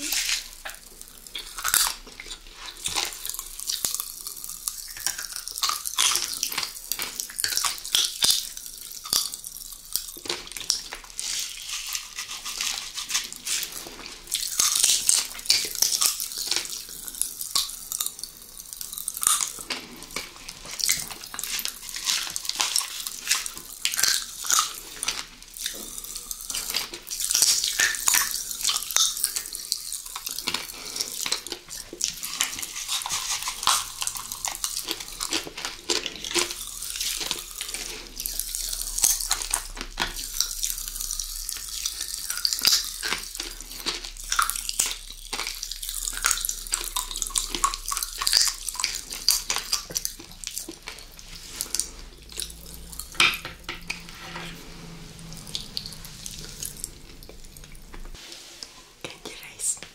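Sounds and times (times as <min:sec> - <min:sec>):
chewing and mouth sounds: 0:00.0 - 0:58.2.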